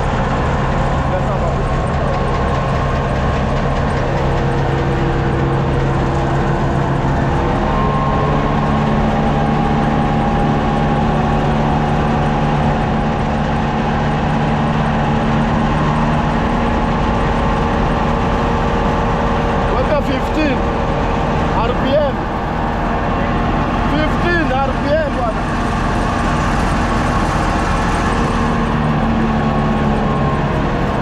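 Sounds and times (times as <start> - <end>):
grain dryer fan drone: 0.0 - 31.0.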